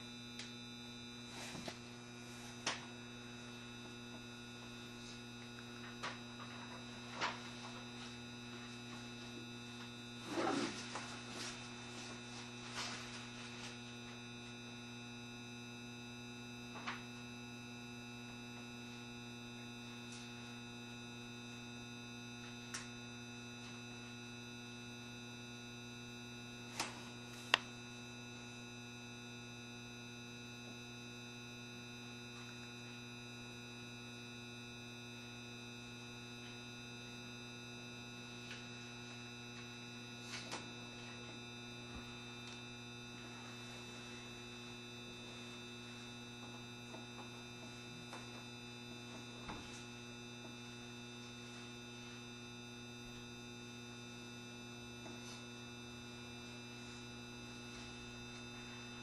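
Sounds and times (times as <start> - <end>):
electrical hum with fixed tones: 0.0 - 59.0.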